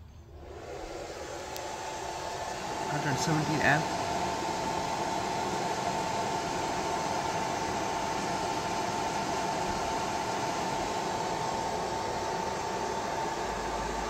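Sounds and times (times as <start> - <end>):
constant high whine: 0.0 - 14.0
inverter fan whirring: 0.0 - 14.0.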